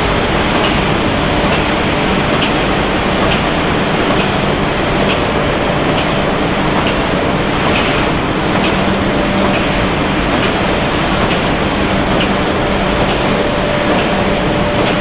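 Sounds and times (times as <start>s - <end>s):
machinery rumble and hum: 0.0s - 15.0s.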